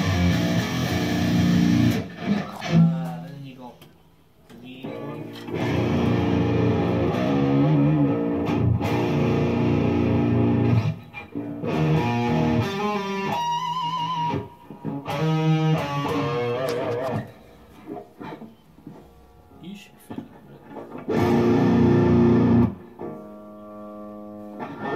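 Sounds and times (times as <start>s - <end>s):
electric guitar through amplifier: 0.0s - 3.3s, 4.8s - 24.9s.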